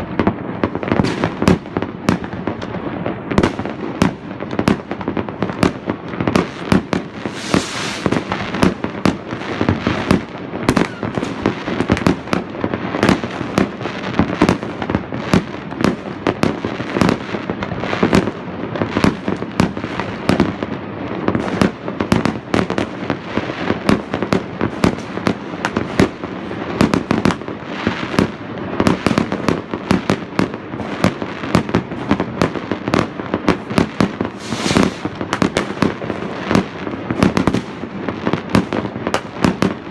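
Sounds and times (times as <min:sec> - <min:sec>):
fireworks bangs and pops: 0:00.0 - 0:39.9
fireworks crackling hiss: 0:00.0 - 0:39.9.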